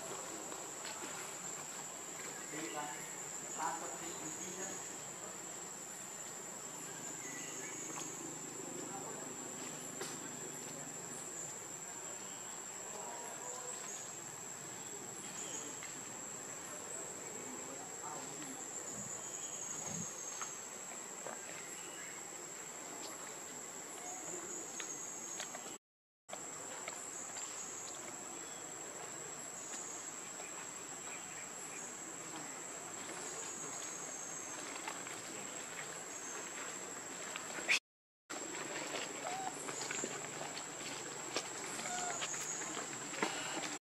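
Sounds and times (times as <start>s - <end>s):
faint outdoor background noise: 0.0s - 43.8s
insects droning: 0.0s - 43.8s.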